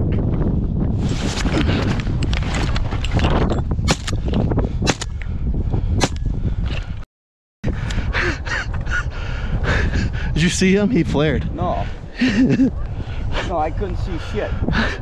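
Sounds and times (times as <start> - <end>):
wind buffeting microphone: 0.0 - 7.0, 7.6 - 15.0.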